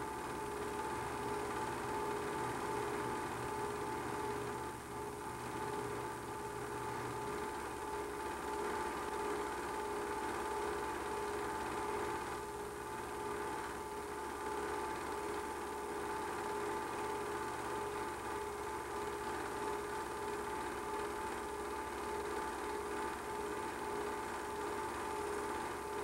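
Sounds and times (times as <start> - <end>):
film projector running: 0.0 - 26.0.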